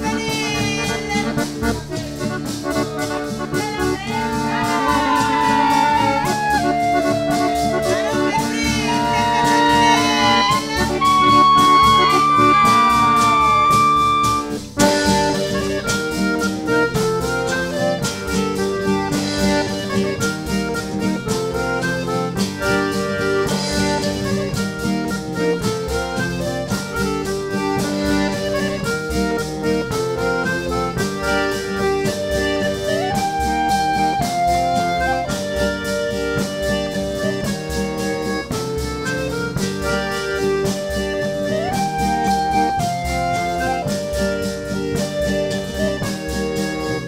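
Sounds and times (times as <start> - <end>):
small group playing instrumental music: 0.0 - 47.0.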